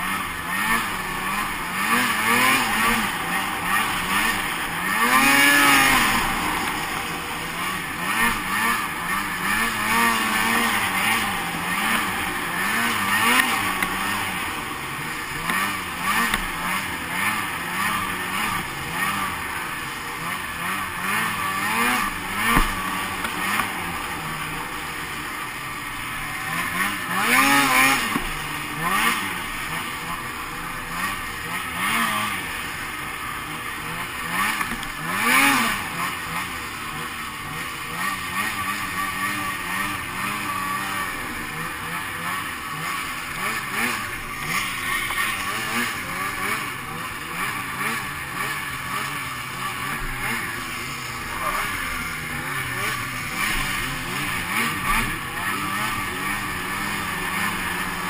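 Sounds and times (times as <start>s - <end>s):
snowmobile engine revving: 0.0s - 58.0s
steady rushing noise: 0.0s - 58.0s.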